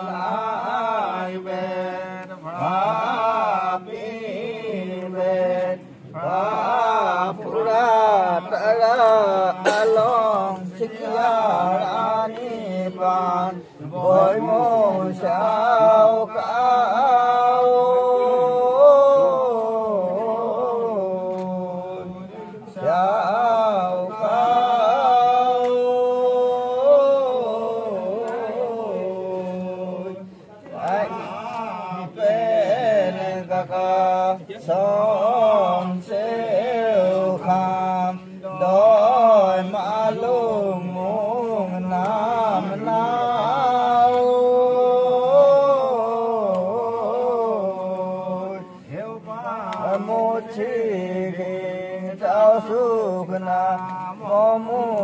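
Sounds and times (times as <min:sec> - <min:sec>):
person chanting a prayer: 0:00.0 - 0:55.0.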